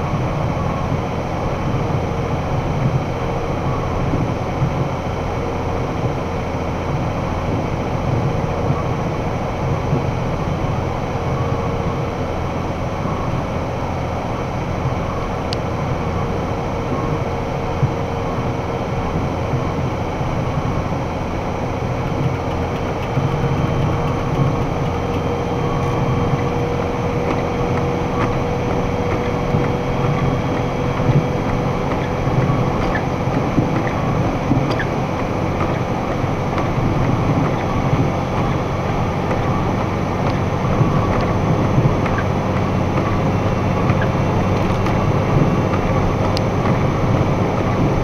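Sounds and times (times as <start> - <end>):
steady whine: 0.0 - 48.0
truck engine running: 0.0 - 48.0.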